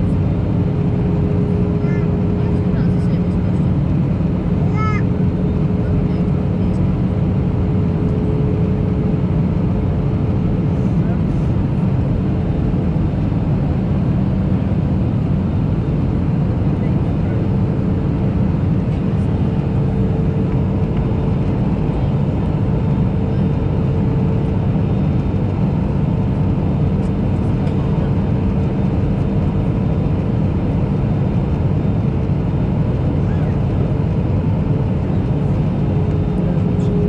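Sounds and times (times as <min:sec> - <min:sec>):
aircraft cabin engine drone: 0:00.0 - 0:37.0.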